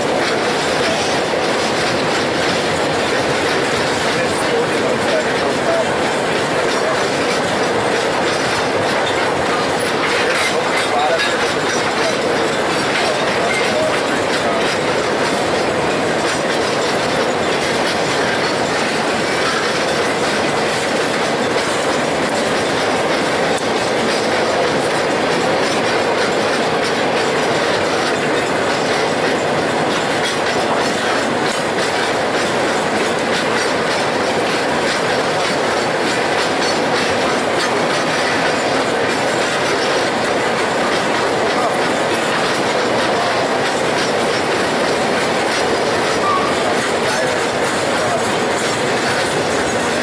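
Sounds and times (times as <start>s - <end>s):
train wheels clattering over rail joints: 0.0s - 50.0s.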